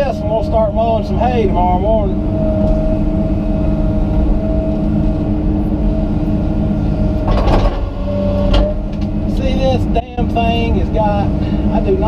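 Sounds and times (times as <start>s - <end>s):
excavator diesel engine running: 0.0s - 12.0s
steady whine: 0.0s - 12.0s.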